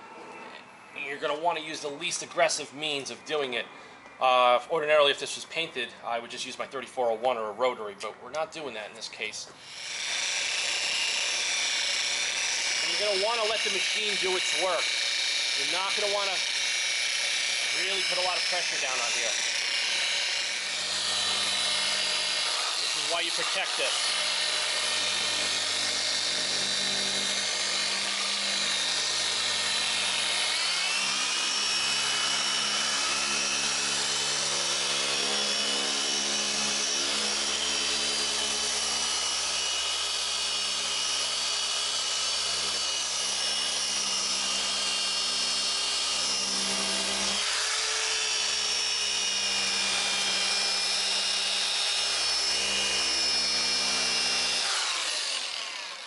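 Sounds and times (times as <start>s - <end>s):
polisher motor running: 9.6s - 56.0s.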